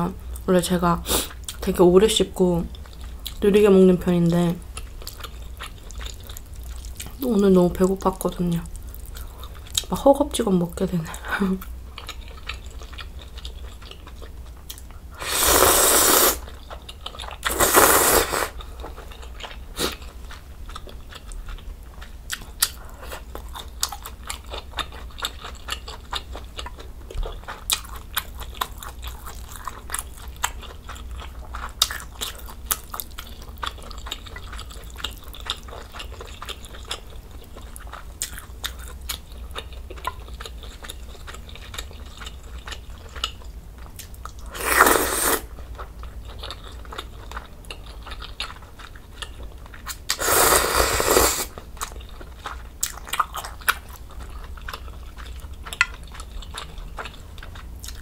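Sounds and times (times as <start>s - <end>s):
wet chewing and mouth sounds: 2.6s - 3.5s, 4.3s - 58.0s.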